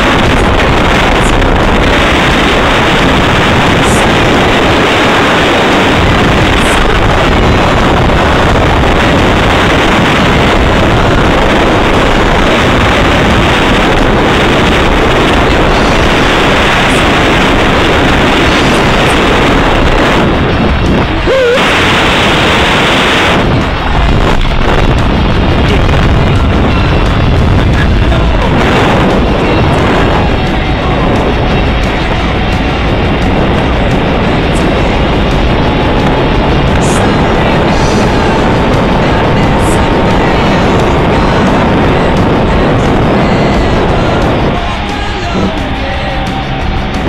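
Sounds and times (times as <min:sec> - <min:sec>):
wind and road noise: 0:00.0 - 0:47.0
wind buffeting microphone: 0:00.0 - 0:47.0.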